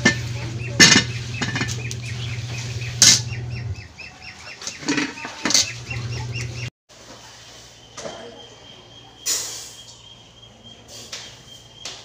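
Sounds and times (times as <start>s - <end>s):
birds chirping fast: 0.2s - 6.7s, 7.5s - 12.0s.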